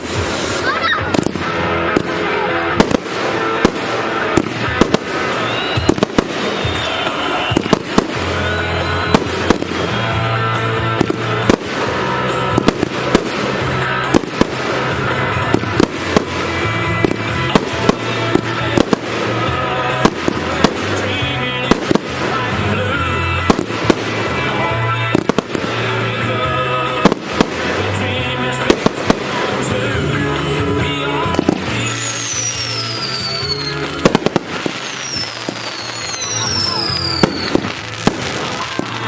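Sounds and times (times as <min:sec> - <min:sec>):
firework bursts and bangs: 0:00.0 - 0:39.0
music with steady bass line: 0:07.2 - 0:39.0.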